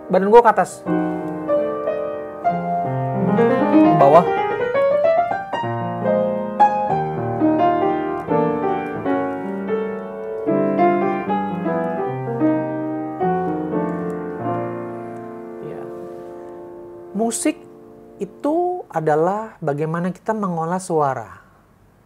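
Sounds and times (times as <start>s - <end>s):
upright piano playing chords: 0.0s - 19.8s.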